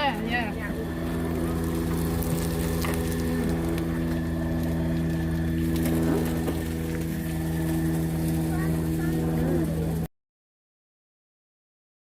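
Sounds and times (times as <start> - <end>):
motor humming: 0.0 - 10.1.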